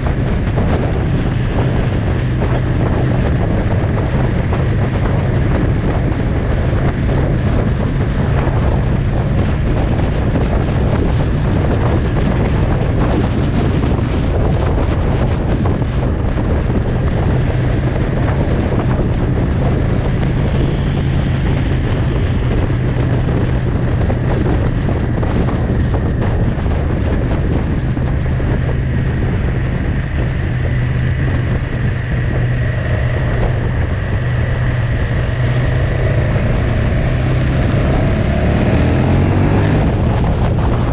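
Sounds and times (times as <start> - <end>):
motorcycle engine droning: 0.0 - 40.9
wind buffeting microphone: 0.0 - 40.9.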